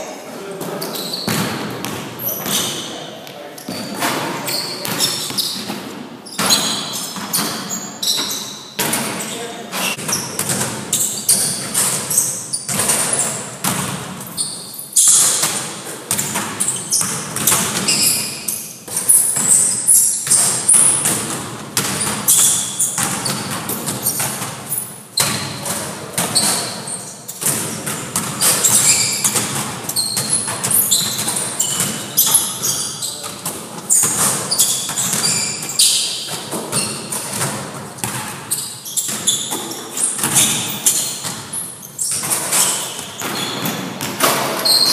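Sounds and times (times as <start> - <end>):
basketball bouncing on gym floor: 0.6 - 2.8, 3.6 - 44.9
basketball hitting rim and backboard: 1.2 - 2.7, 3.7 - 44.9.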